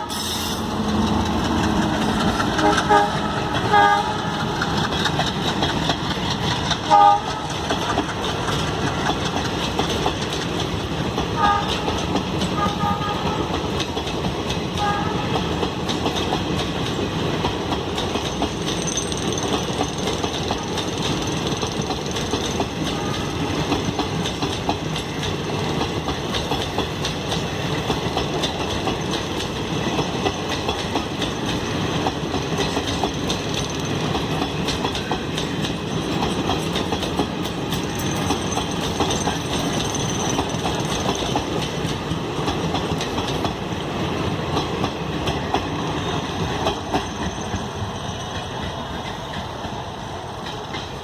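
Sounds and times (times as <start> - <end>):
wheels clattering over rail joints: 0.7 - 43.6.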